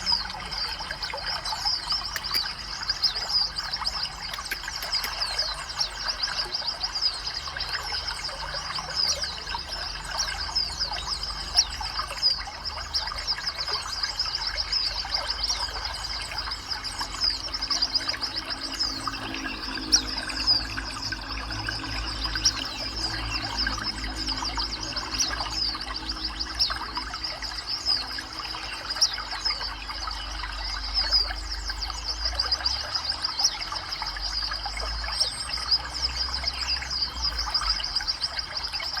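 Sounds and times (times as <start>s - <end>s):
songbirds chirping: 0.0s - 39.0s.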